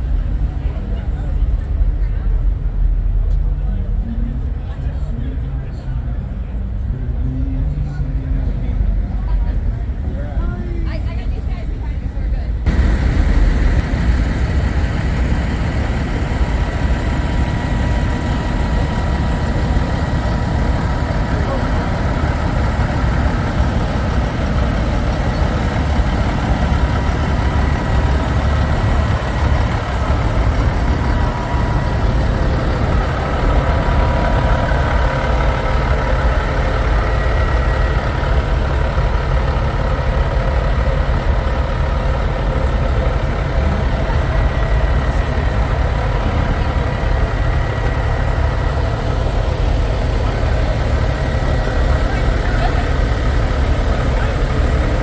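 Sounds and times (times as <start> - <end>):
truck diesel engines idling: 0.0 - 55.0.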